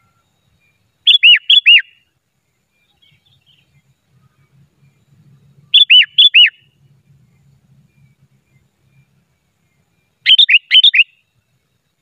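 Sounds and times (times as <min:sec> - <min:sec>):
bird whistling song phrases: 0:00.0 - 0:02.1, 0:02.7 - 0:12.0.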